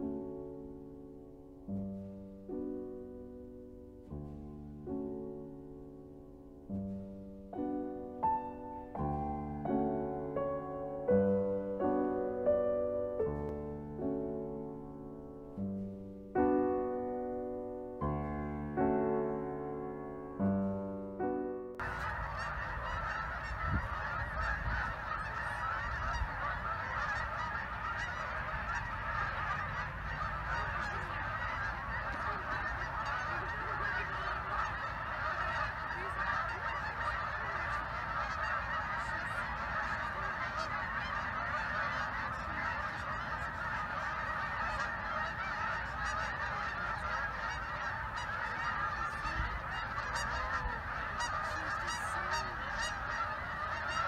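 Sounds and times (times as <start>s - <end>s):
flock of geese honking: 1.2s - 14.6s, 15.2s - 54.0s.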